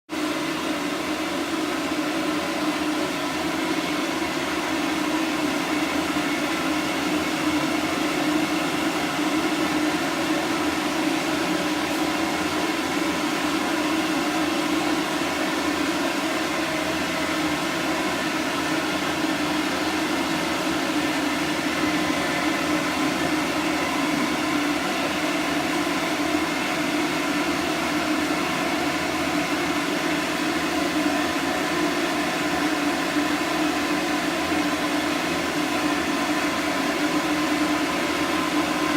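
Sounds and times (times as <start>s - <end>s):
hair dryer blowing: 0.1s - 38.9s.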